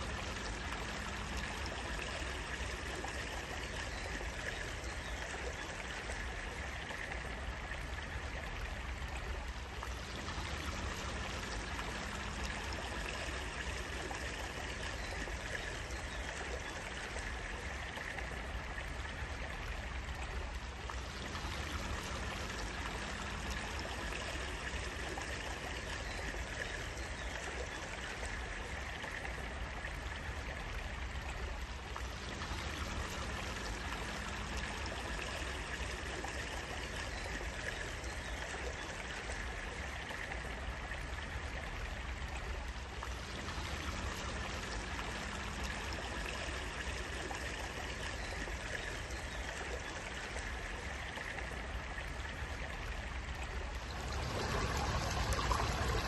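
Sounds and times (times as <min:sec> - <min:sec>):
water flowing: 0:00.0 - 0:56.0.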